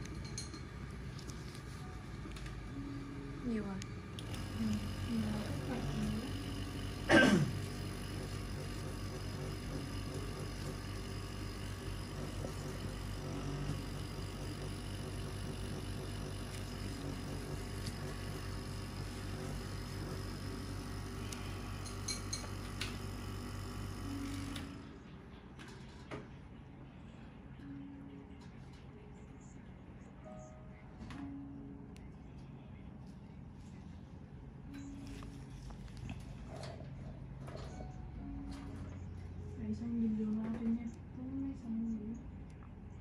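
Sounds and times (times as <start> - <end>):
low background hum: 0.0 - 43.0.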